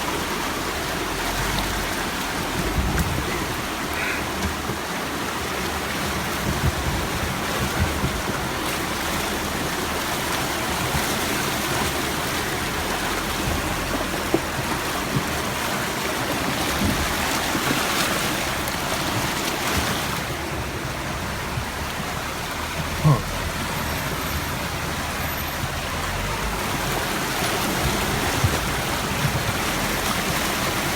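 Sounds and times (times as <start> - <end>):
river water rushing and splashing: 0.0 - 30.9.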